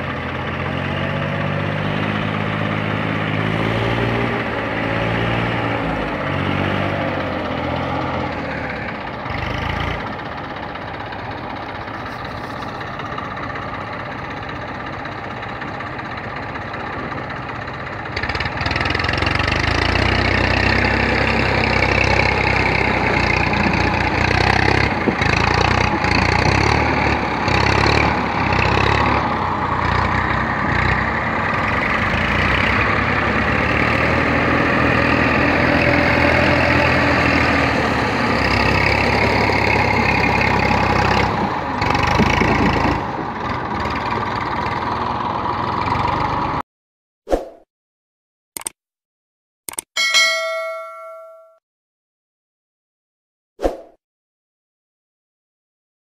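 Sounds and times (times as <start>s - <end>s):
tractor diesel engine running: 0.0s - 46.6s.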